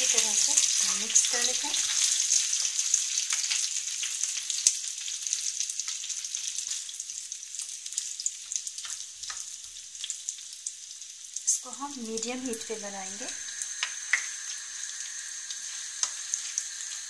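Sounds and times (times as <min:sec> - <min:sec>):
potatoes sizzling in a frying pan: 0:00.0 - 0:17.0.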